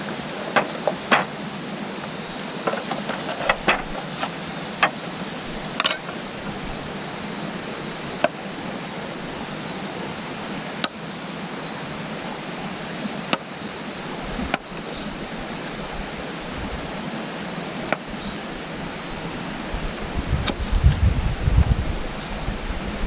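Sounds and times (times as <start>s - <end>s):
flowing water: 0.0s - 23.0s.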